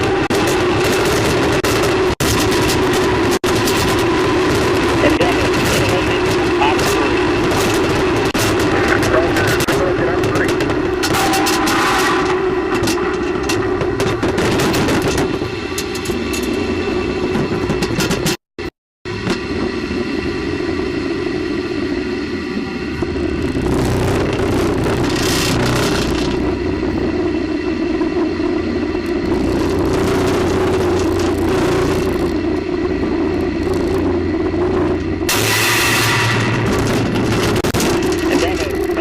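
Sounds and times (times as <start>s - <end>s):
rocket booster roaring: 0.0s - 17.9s, 19.1s - 39.0s.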